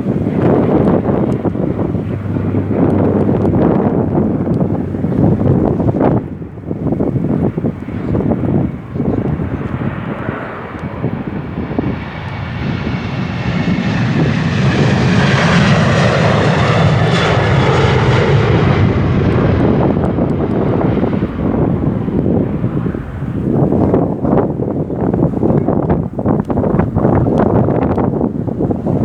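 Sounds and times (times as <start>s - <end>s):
jet engines passing: 0.0s - 29.0s
wind buffeting microphone: 0.0s - 29.0s.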